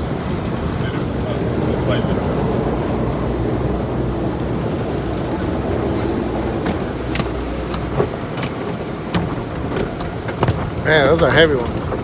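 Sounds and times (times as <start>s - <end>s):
car wash machinery and water rumble: 0.0s - 12.0s.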